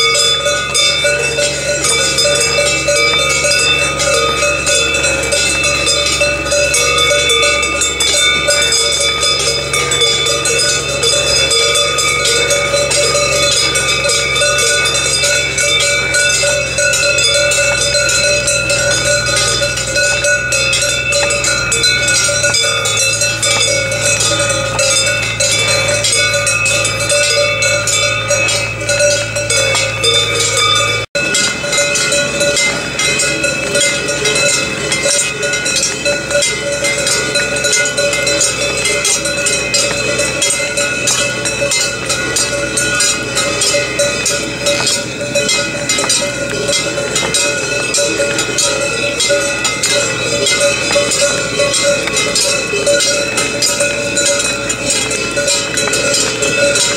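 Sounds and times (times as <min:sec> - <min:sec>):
cowbells clanging: 0:00.0 - 0:56.9.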